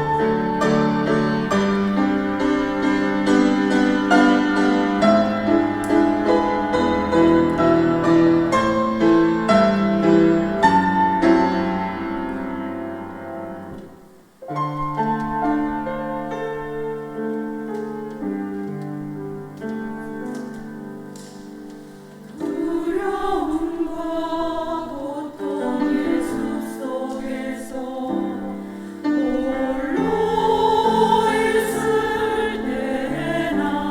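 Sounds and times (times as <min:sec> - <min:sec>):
piano chords: 0:00.0 - 0:33.9.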